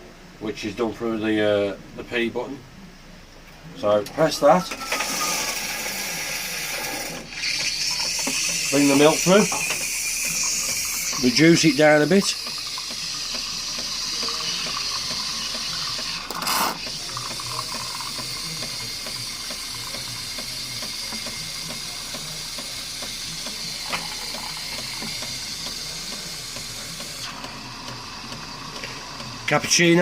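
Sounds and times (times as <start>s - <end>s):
steam frothing milk hiss: 4.9s - 30.0s.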